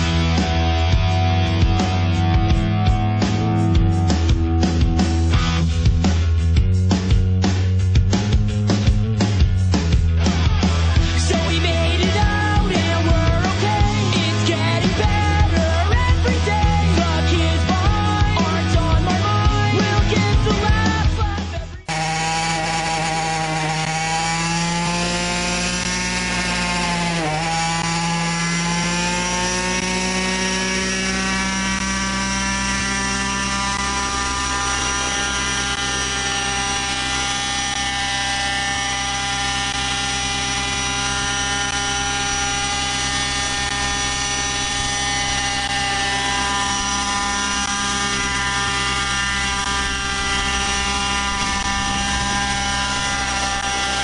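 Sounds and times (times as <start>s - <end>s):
model helicopter engine and rotor: 8.2s - 54.0s.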